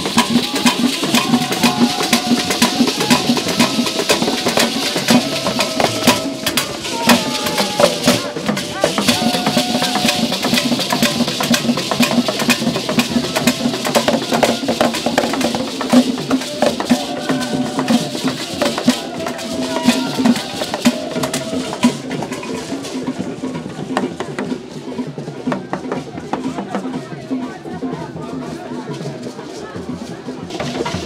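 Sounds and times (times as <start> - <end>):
hand drums beating fast rhythm: 0.0 - 31.0.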